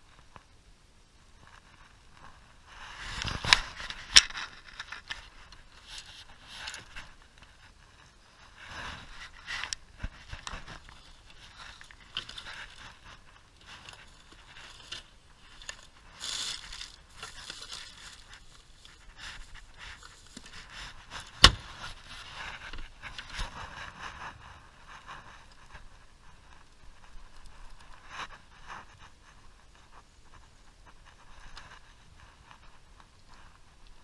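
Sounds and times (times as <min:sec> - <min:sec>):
gear scraping and rustling: 0:01.4 - 0:34.0.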